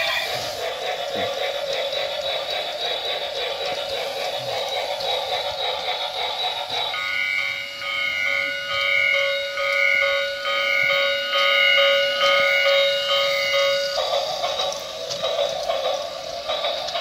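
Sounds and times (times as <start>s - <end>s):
toy train hiss: 0.0s - 17.0s.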